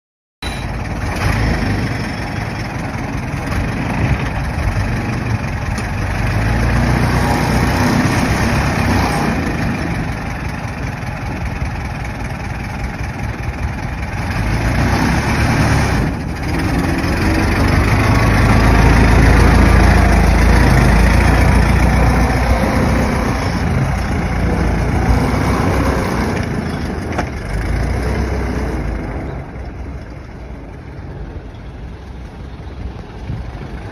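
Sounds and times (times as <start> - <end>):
old car engine running: 0.4 - 31.2.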